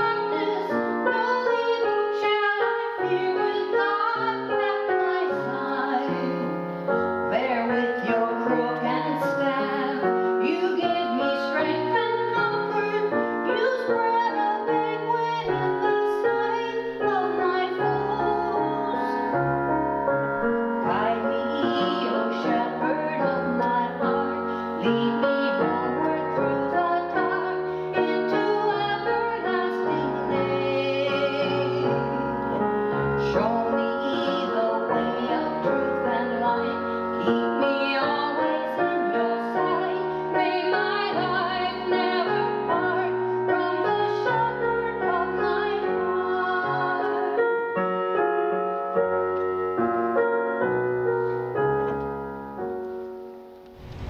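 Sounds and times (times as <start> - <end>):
woman singing: 0.0 - 19.8, 20.8 - 47.7
piano: 0.0 - 54.0.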